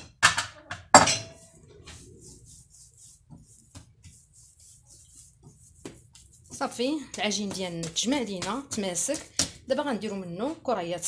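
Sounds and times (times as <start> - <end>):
hands rubbing dough: 1.4 - 10.6
light pats on dough: 1.8 - 10.7.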